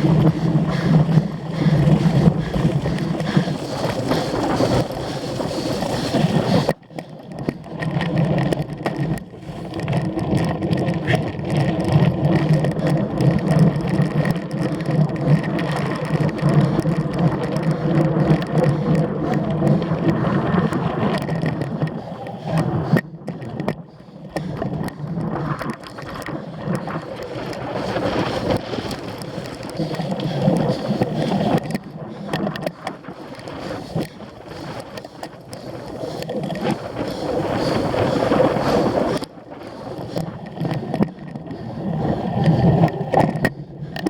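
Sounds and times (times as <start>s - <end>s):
bike rattles and knocks: 0.0s - 44.0s
wind and riding noise: 0.0s - 44.0s.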